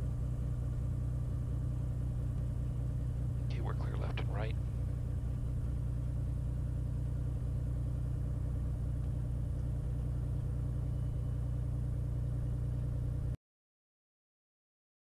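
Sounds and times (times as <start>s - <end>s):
propeller plane engine droning: 0.0s - 13.4s.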